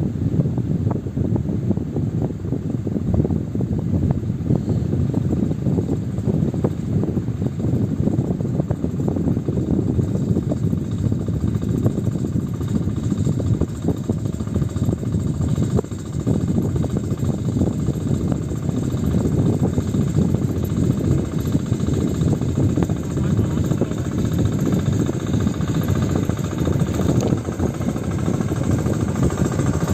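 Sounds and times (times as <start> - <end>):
engine chugging: 2.0 - 29.9.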